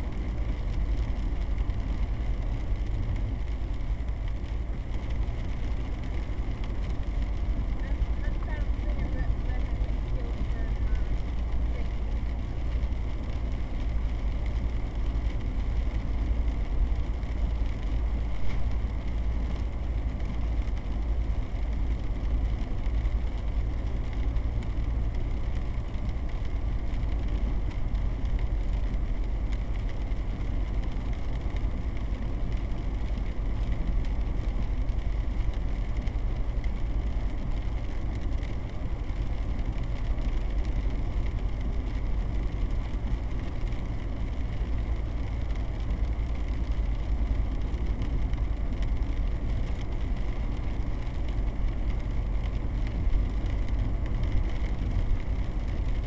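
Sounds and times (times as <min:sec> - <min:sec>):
car engine rumble from cabin: 0:00.0 - 0:56.0
tyres on wet road: 0:00.0 - 0:56.0.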